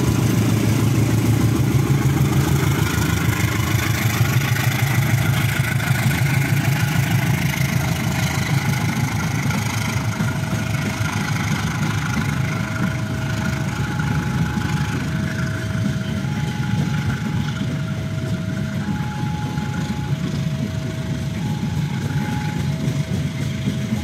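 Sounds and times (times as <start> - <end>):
diesel train rumble: 0.0 - 24.0.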